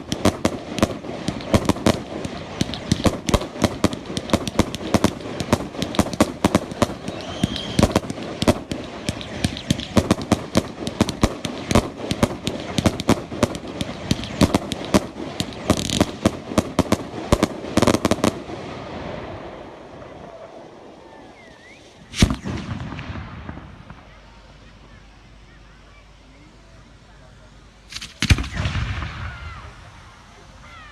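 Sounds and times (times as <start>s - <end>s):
fireworks bangs and cracks: 0.0s - 21.0s, 21.8s - 24.4s, 27.9s - 30.0s.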